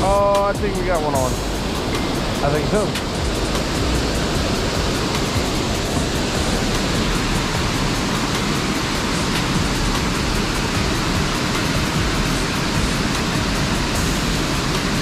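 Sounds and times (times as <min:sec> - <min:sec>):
water rushing through dam: 0:00.0 - 0:15.0.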